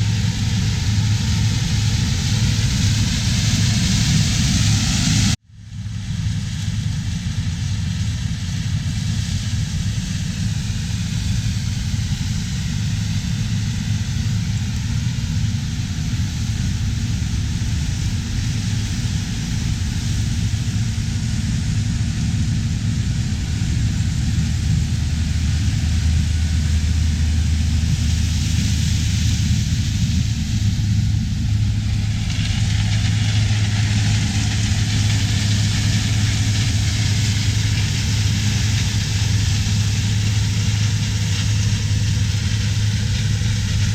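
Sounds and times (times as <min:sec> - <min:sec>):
diesel engines droning: 0:00.0 - 0:43.9.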